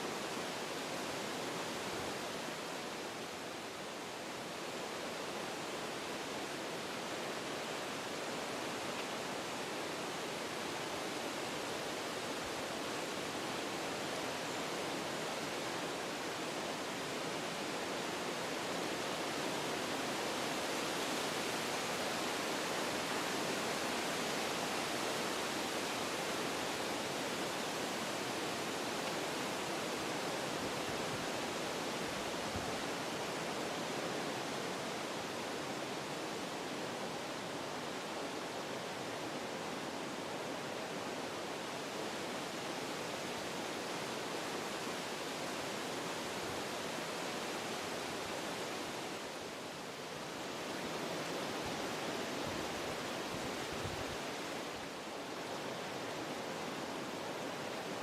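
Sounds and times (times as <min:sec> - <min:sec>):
wind through forest trees: 0:00.0 - 0:58.0.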